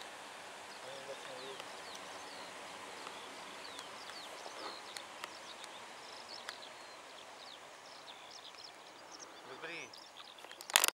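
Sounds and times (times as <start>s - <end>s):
small birds chirping: 0.0s - 10.9s
steady outdoor hiss: 0.0s - 10.9s.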